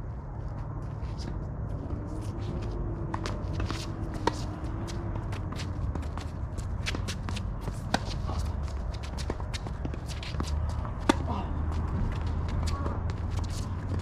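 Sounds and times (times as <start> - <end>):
footsteps on hard court: 0.4 - 14.0.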